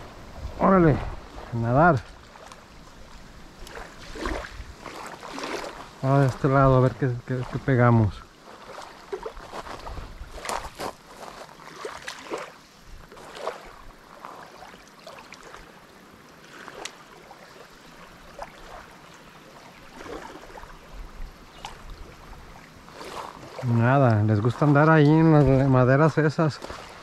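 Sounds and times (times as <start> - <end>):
small waves lapping on gravel: 0.5 - 27.0.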